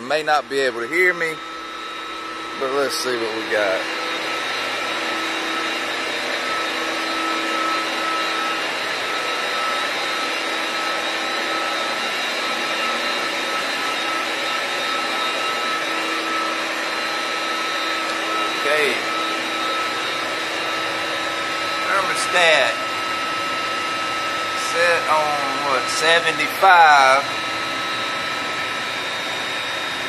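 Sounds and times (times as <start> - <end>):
electric motor driving water pump: 0.0 - 30.0.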